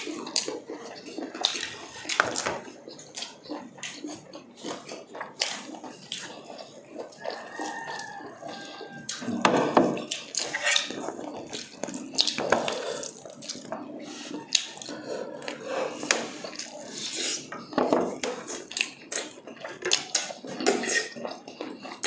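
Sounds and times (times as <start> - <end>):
wet chewing and lip-smacking: 0.0 - 9.4, 10.0 - 22.0.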